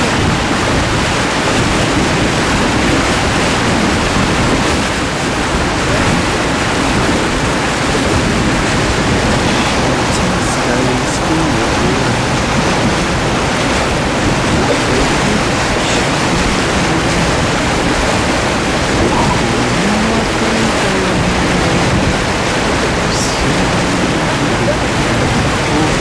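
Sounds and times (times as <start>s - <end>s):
boat engines droning: 0.0s - 26.0s
water and wind rushing along hull: 0.0s - 26.0s.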